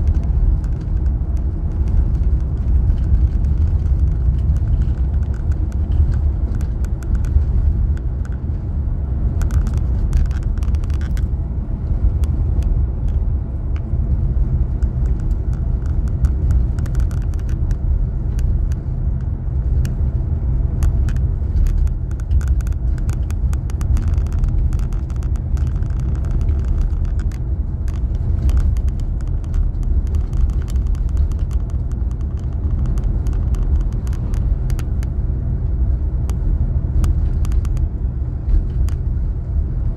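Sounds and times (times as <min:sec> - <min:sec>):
car road and engine rumble: 0:00.0 - 0:39.9
light clicks and rattles: 0:00.0 - 0:39.9.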